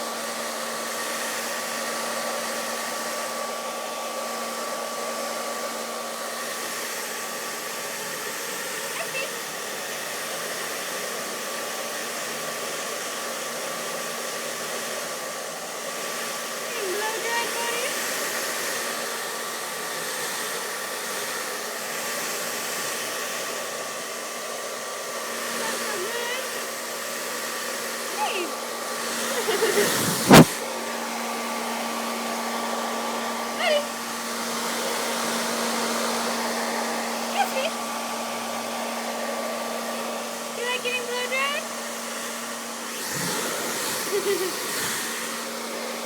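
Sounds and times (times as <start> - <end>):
hair dryer blowing: 0.0 - 46.0.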